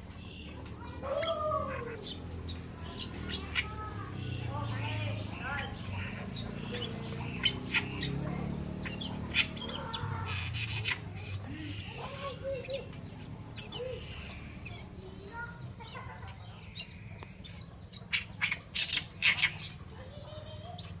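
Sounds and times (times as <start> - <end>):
warbler singing harsh chattering: 0.0 - 21.0.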